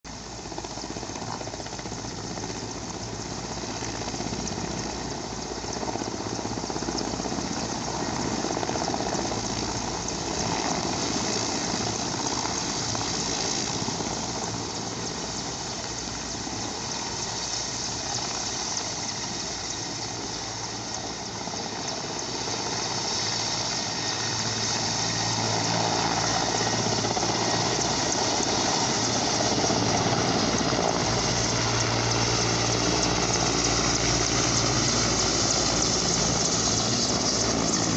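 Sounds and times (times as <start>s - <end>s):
helicopter engine and rotor: 0.1s - 37.9s.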